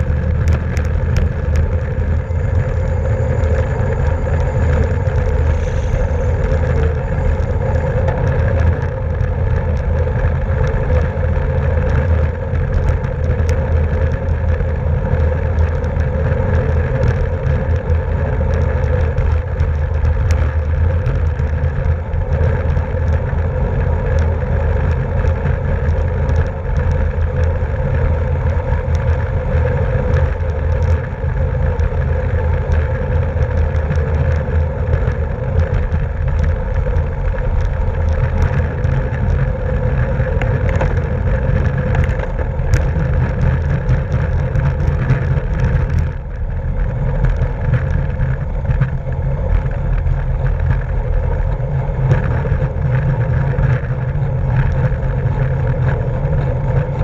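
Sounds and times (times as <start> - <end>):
bike tyres and drivetrain hum: 0.0 - 57.0
wind rush on microphone: 0.0 - 57.0.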